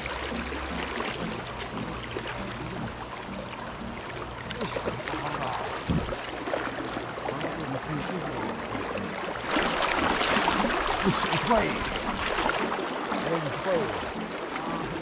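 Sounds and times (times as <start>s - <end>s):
river current rushing and splashing: 0.0s - 15.0s.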